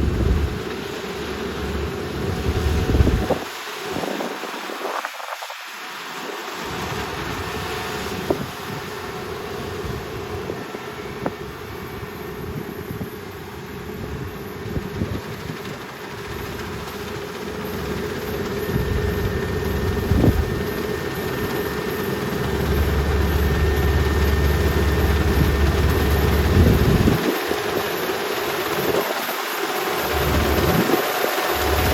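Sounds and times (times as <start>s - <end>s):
combine harvester engine running: 0.0s - 4.8s, 5.9s - 31.9s.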